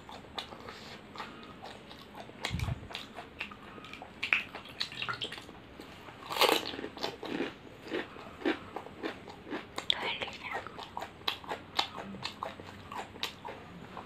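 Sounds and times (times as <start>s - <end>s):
crunching and chewing crisp shells: 0.0s - 14.0s.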